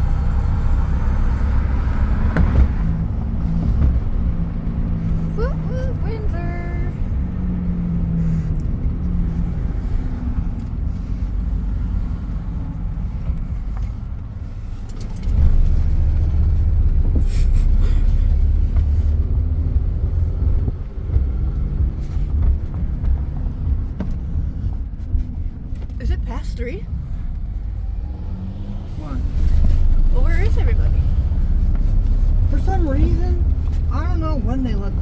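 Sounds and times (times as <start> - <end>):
wind buffeting through window: 0.0 - 6.1, 6.8 - 35.0
road and engine rumble: 0.0 - 35.0.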